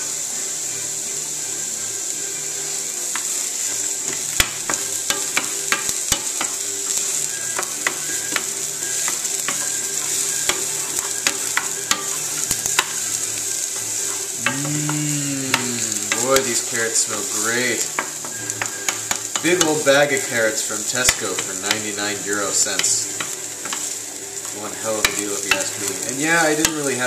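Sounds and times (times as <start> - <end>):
vegetables sizzling in frying pan: 0.0 - 27.0.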